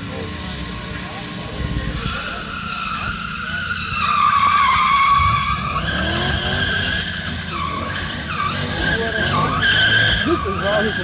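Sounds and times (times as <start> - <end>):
car engine running hard: 0.0 - 11.0
tyres squealing on wet asphalt: 0.0 - 11.0.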